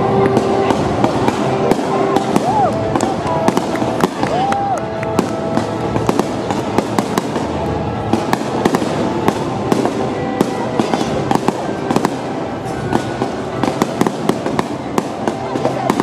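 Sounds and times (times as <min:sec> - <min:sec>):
fireworks popping and cracking: 0:00.0 - 0:16.0.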